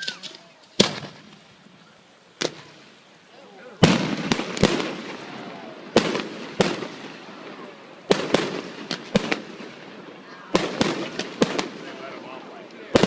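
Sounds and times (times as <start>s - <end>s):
fireworks bangs: 0.0s - 1.8s, 2.4s - 13.0s.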